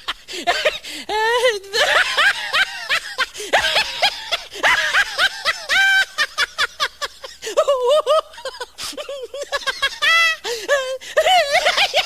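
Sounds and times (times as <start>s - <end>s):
man laughing hard: 0.0s - 12.0s.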